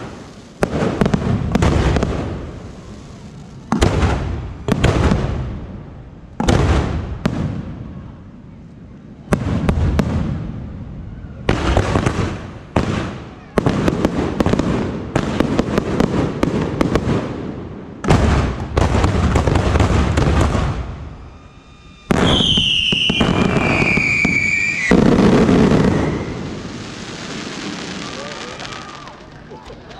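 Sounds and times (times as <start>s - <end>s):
whistling firework: 0.0s - 29.9s.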